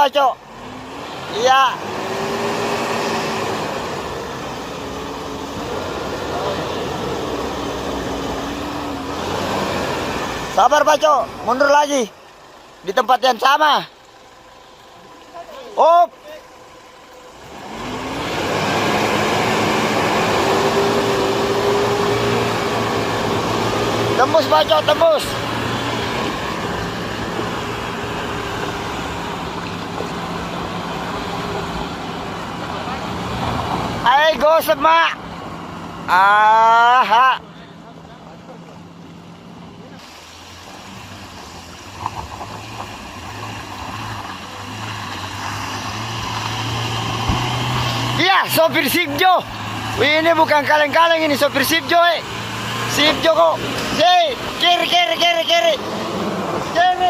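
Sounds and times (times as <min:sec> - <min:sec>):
truck engine revving under load: 0:00.0 - 0:57.0.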